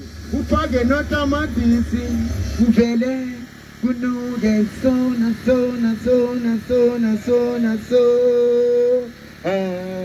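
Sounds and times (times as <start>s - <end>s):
man singing: 0.6s - 10.0s.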